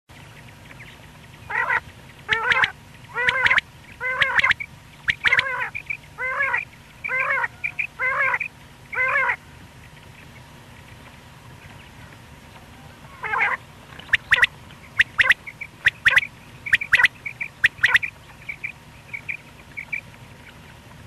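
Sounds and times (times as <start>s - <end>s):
quail calling: 0.8s - 11.1s, 12.6s - 20.6s.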